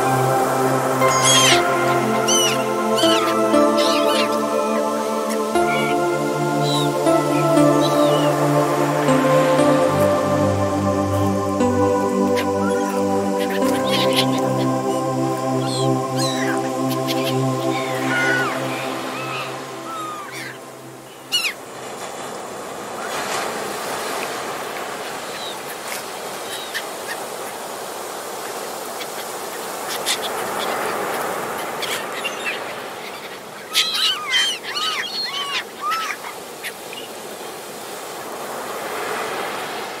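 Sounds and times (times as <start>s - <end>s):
sea waves breaking on beach: 0.0s - 40.0s.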